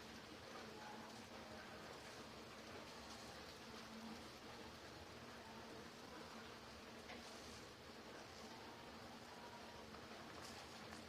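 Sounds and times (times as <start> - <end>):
pot boiling hiss: 0.0 - 11.0.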